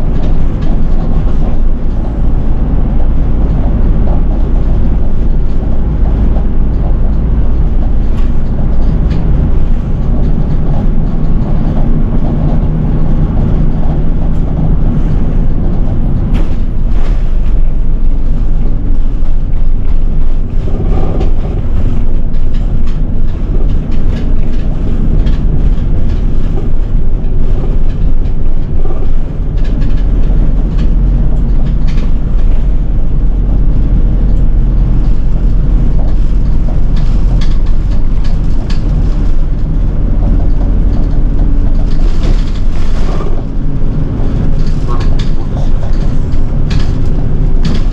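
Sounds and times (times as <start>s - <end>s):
bus engine and road rumble: 0.0s - 47.9s
rattles and clicks: 0.0s - 47.9s.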